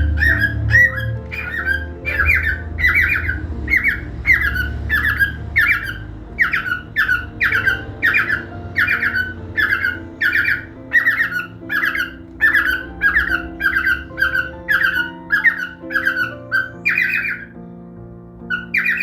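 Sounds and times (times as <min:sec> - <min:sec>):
cockatiel chirping: 0:00.0 - 0:17.6, 0:18.5 - 0:19.0.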